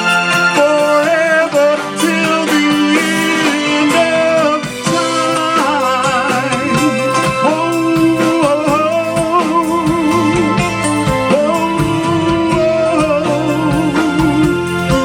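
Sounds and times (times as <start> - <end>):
guitar: 0.0 - 15.0
keyboard chords: 0.0 - 15.0
lead melody with vibrato: 0.0 - 15.0
steady drum beat: 0.0 - 15.0.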